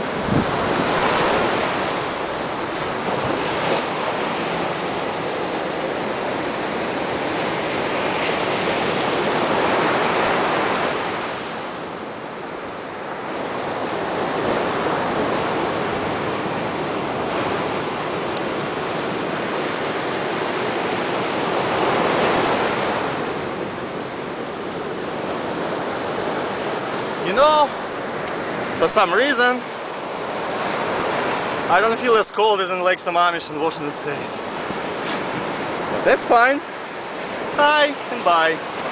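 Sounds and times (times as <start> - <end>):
wind rumbling on microphone: 0.0 - 29.0, 33.7 - 37.6
surf breaking on beach: 0.0 - 38.9.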